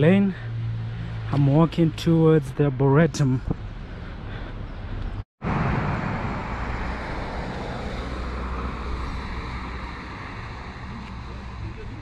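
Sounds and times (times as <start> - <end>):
car passing: 0.3 - 2.0, 3.6 - 12.0.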